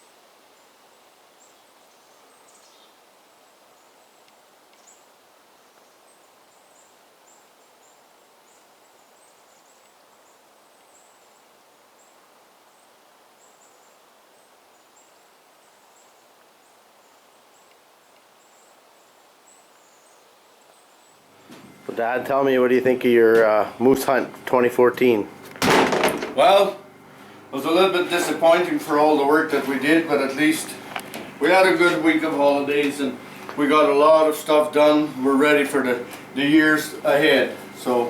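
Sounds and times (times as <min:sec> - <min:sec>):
steady low hiss: 0:00.0 - 0:38.0.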